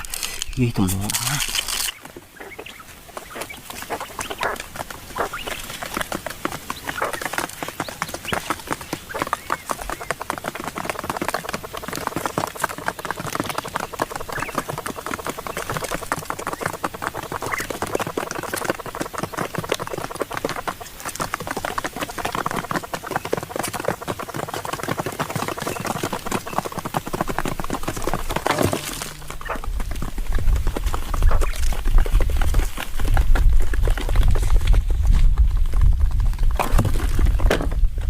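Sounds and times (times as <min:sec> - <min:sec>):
birds chattering: 0:00.0 - 0:32.5.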